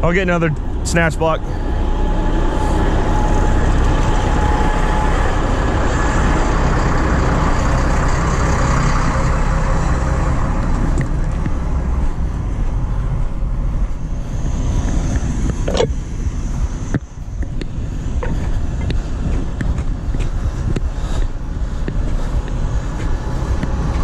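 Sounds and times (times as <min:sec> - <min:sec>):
heavy diesel equipment rumbling: 0:00.0 - 0:24.0.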